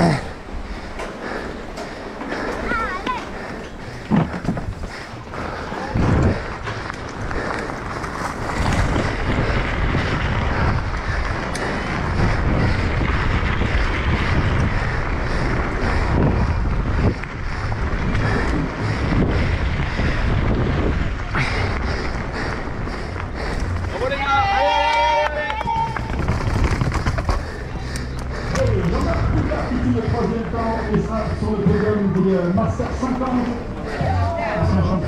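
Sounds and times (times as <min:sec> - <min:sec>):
bike tyres rumbling on gravel: 0:00.0 - 0:35.0
wind buffeting microphone: 0:00.0 - 0:35.0.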